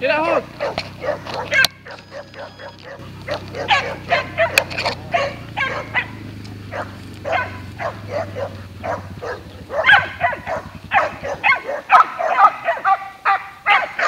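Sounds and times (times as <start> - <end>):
dogs barking: 0.2 - 14.0.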